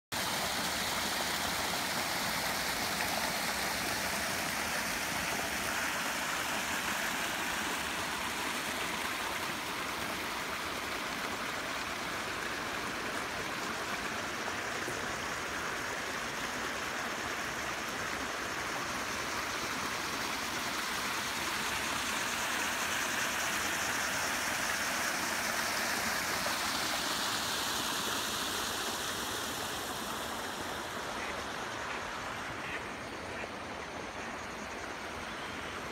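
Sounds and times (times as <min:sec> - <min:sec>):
water splashing down rocky cascade: 0:00.1 - 0:35.9.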